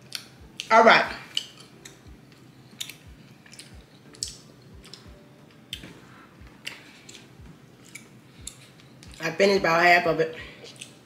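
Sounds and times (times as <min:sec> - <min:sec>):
person chewing with wet smacks: 0:00.0 - 0:00.7, 0:01.3 - 0:09.2, 0:10.6 - 0:11.0.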